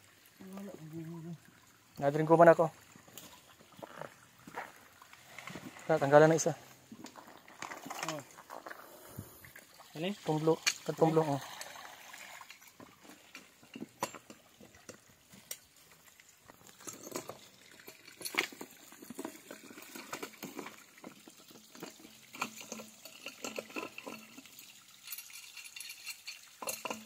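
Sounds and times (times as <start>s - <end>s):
faint trickling water: 0.0s - 27.0s.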